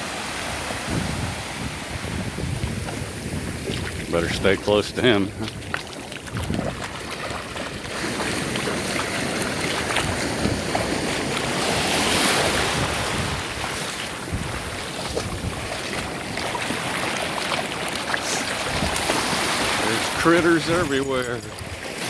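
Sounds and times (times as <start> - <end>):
wind buffeting microphone: 0.4 - 17.6, 18.4 - 21.9
sea water splashing: 1.6 - 22.0.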